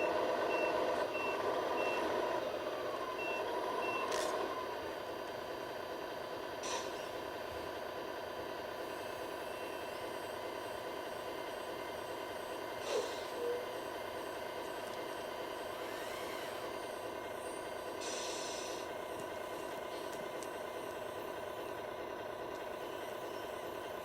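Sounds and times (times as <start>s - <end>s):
model vehicles whining: 0.0s - 24.0s.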